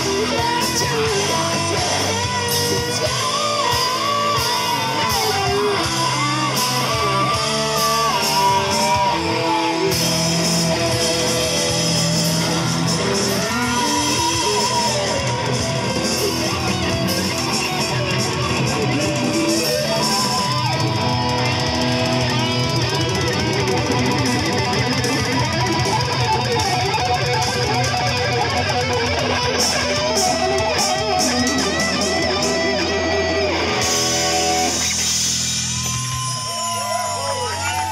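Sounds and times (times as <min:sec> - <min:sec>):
bass guitar: 0:00.0 - 0:37.9
drum kit: 0:00.0 - 0:37.9
electric guitars: 0:00.0 - 0:37.9.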